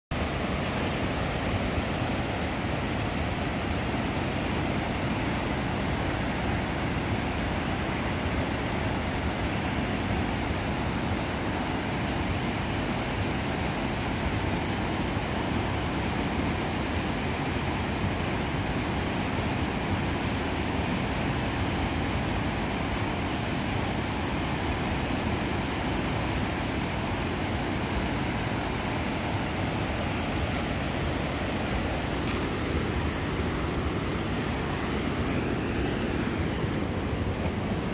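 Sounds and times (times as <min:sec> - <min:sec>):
river rushing over rapids: 0:00.1 - 0:37.9.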